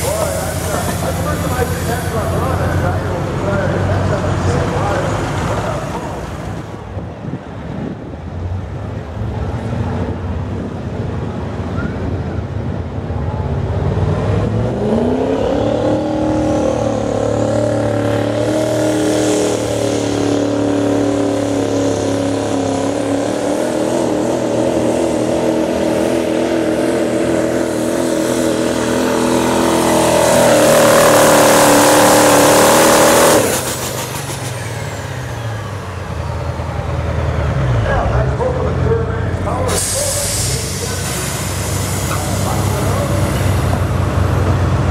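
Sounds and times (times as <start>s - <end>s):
diesel pickup engine revving: 0.0s - 44.9s.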